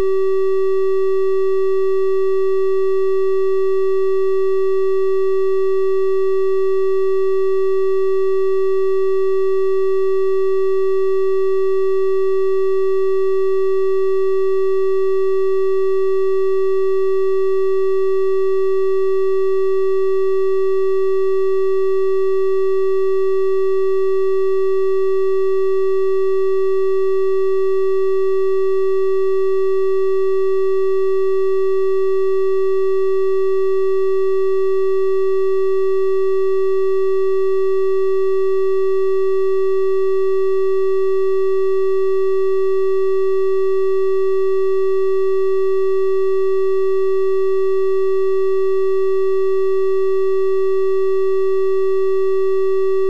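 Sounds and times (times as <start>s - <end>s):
electronic triangle-wave tone: 0.0s - 53.0s.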